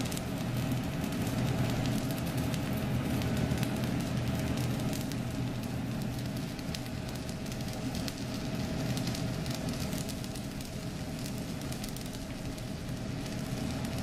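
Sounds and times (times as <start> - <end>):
arc welding crackling sizzle: 0.0 - 14.0.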